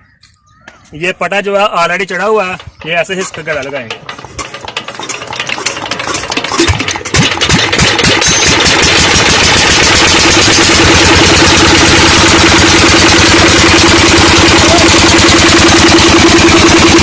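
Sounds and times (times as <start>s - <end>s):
diesel engine knocking: 2.4s - 17.0s.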